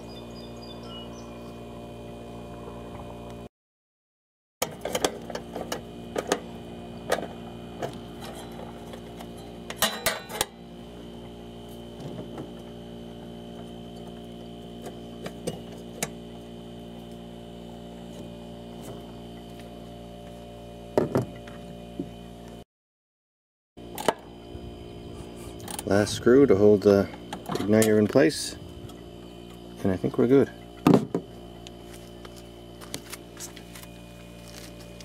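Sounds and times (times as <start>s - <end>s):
steady low hum: 0.0s - 3.5s, 4.6s - 22.6s, 23.8s - 35.0s.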